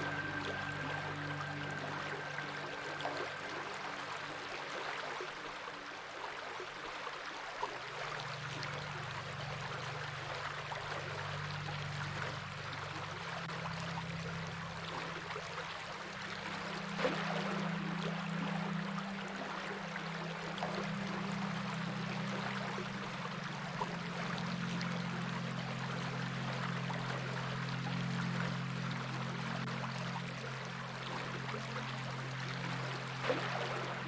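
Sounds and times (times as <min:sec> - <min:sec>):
low drone: 0:00.0 - 0:06.6, 0:08.0 - 0:34.0
stream water running: 0:00.0 - 0:34.0.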